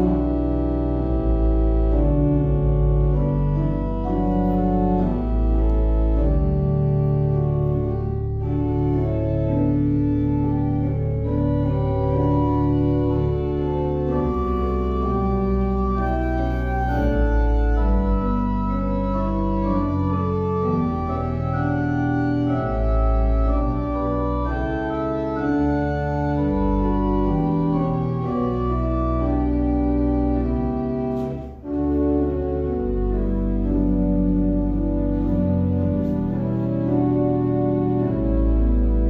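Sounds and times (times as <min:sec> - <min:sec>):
organ playing slow chords: 0:00.0 - 0:39.0.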